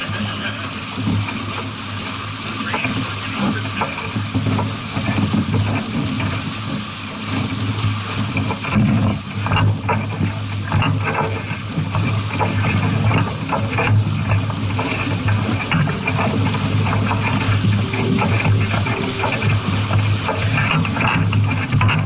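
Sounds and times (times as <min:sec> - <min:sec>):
steady low hum: 0:00.0 - 0:22.0
water rushing and splashing: 0:00.0 - 0:22.0.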